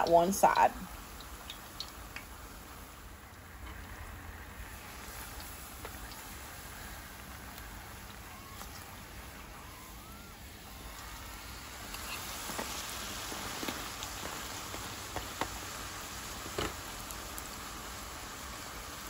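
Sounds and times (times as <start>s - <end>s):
oil popping: 0.0s - 18.4s
dough sizzling in oil: 0.0s - 19.0s.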